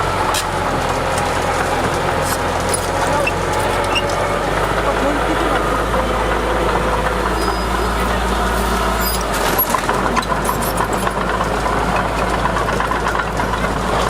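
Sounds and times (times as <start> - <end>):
heavy diesel machinery running: 0.0 - 14.0
clanks and rattles: 0.3 - 14.0.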